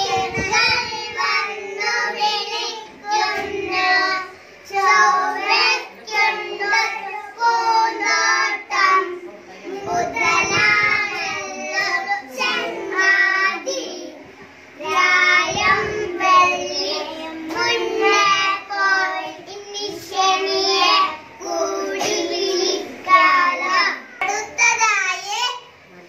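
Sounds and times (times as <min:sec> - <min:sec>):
young children singing: 0:00.0 - 0:24.8.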